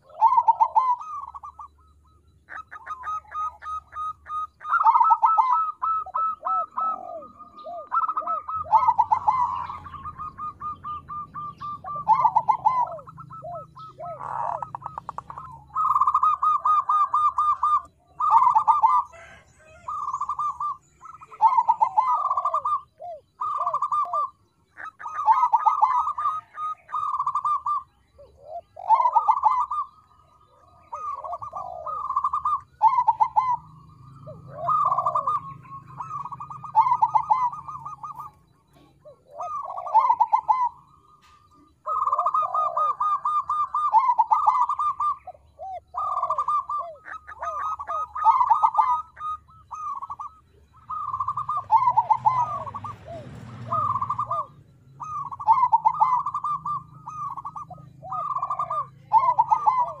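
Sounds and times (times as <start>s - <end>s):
dove cooing trills: 0.0s - 60.0s.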